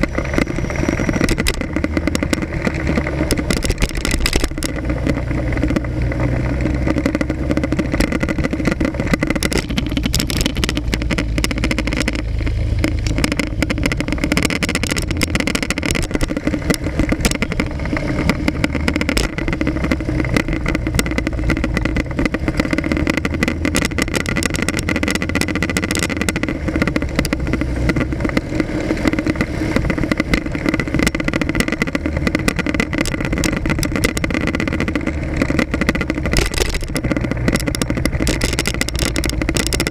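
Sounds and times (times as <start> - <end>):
motorcycle engine running: 0.0 - 39.9
road and traffic noise: 0.0 - 39.9.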